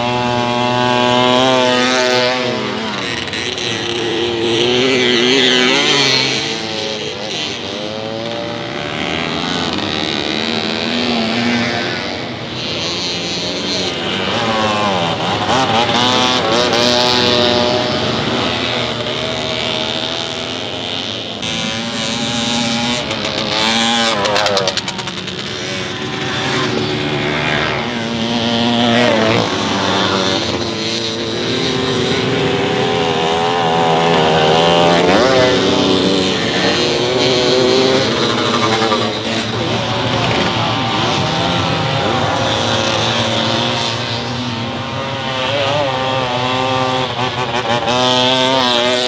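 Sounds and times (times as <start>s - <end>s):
motorcycle engines revving: 0.0s - 49.0s
sharp engine crackles: 7.4s - 48.9s.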